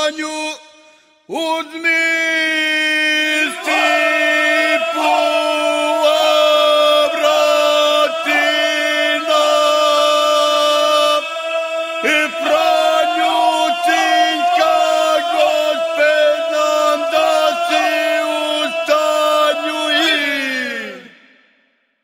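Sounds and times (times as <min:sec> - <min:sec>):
men singing unaccompanied: 0:03.0 - 0:21.1.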